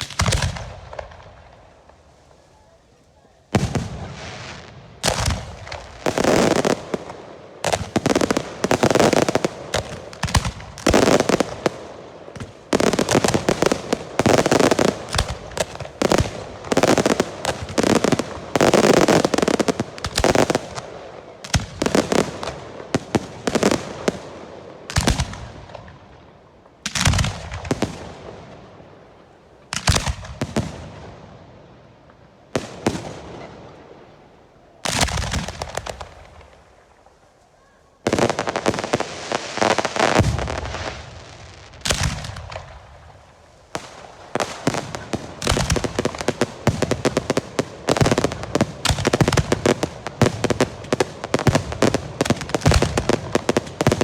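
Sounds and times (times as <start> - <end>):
fireworks rockets banging: 0.0 - 24.3, 26.8 - 28.6, 29.6 - 31.3, 32.1 - 37.2, 38.0 - 54.0.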